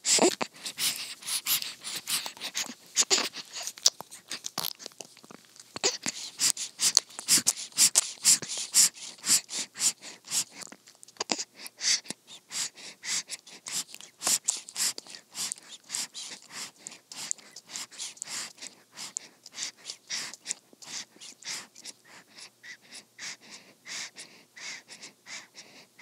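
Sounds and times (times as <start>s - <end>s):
baby sucking on a pacifier: 0.0s - 25.6s.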